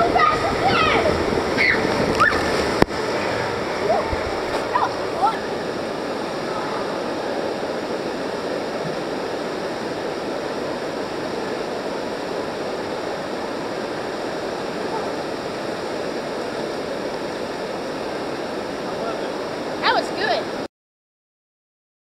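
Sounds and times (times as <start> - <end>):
pool water churning: 0.0 - 20.7
water rushing from slide outlet: 0.0 - 20.7.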